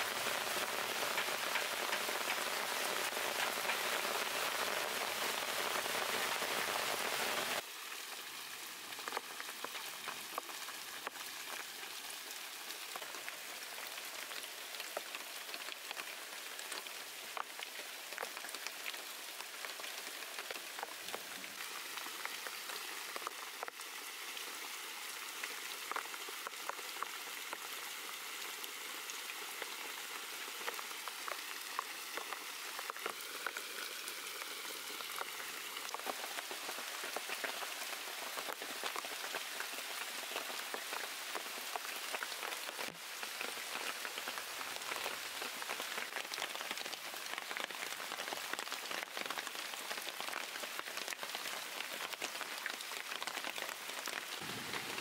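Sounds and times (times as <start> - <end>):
heavy rain falling: 0.0 - 24.2, 25.0 - 55.0.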